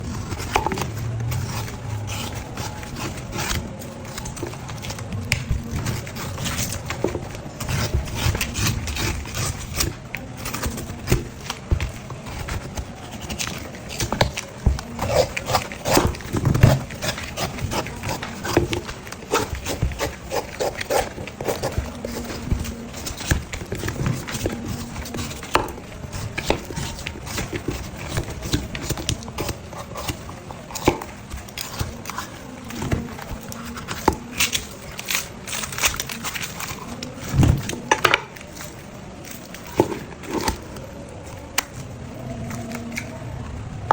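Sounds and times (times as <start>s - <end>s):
blade knocking and scraping coconut: 0.0s - 40.9s.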